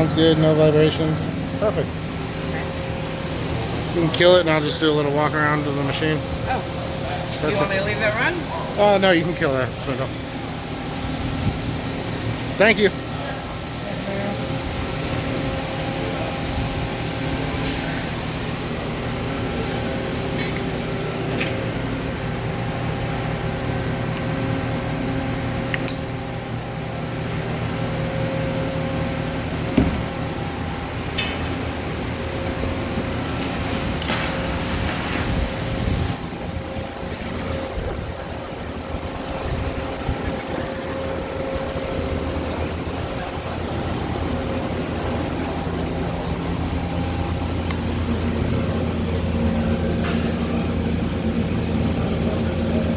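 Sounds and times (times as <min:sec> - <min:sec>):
machine humming: 0:00.0 - 0:52.9.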